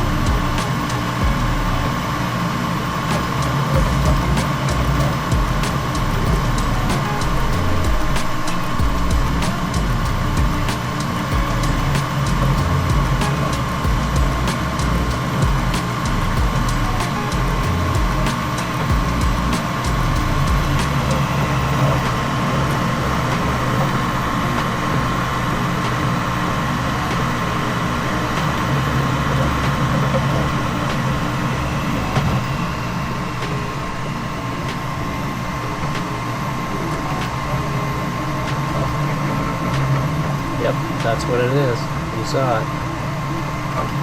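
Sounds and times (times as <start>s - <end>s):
constant high tone: 0.0s - 44.0s
fans and motors humming: 0.0s - 44.0s.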